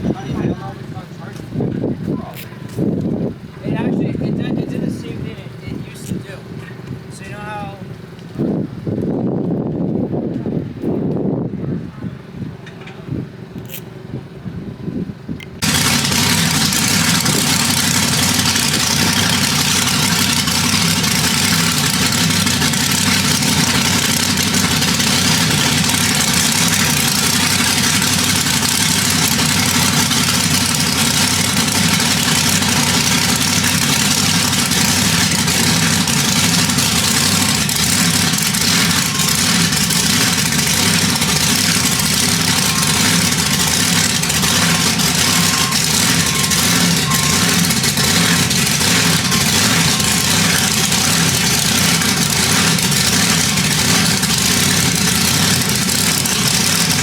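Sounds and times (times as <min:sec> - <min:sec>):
large engine running: 0:00.0 - 0:57.0.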